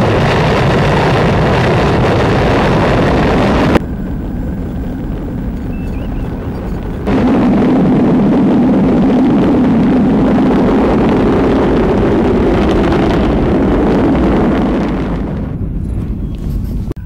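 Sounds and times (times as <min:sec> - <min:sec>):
rocket engine roaring: 0:00.0 - 0:17.0.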